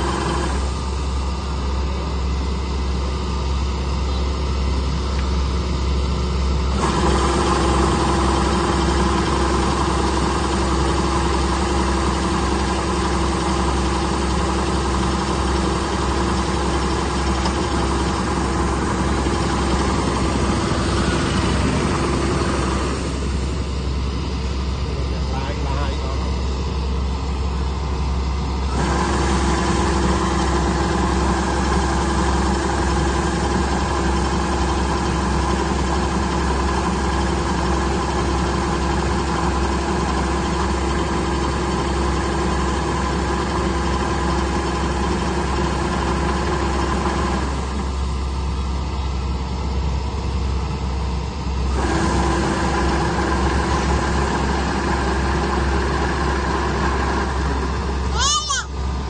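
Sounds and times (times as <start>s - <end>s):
machinery engine running: 0.0s - 59.0s.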